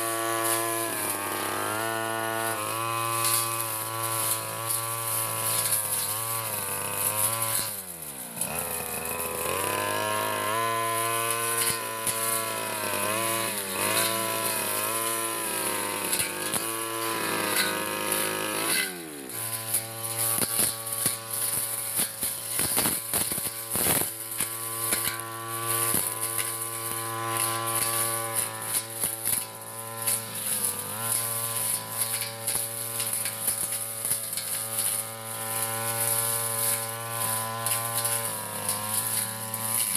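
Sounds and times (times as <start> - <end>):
brush cutter engine revving: 0.0 - 39.9
cutting head mowing grass: 0.0 - 39.9.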